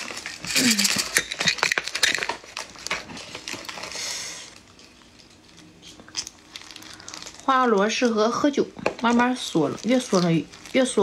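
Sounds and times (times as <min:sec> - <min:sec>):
plastic glove crinkling: 0:00.0 - 0:11.0.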